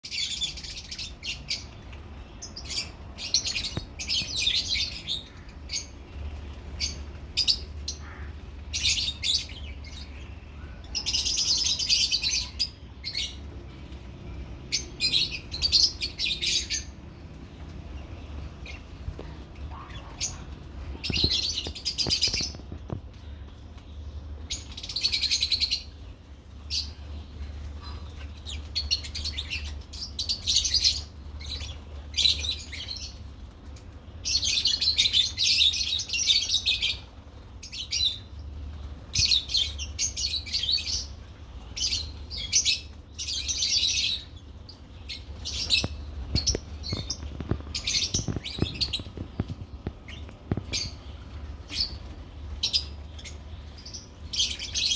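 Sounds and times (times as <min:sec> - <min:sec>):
lovebirds chirping: 0:00.1 - 0:33.4, 0:34.2 - 0:54.9
low steady hum: 0:00.1 - 0:54.9.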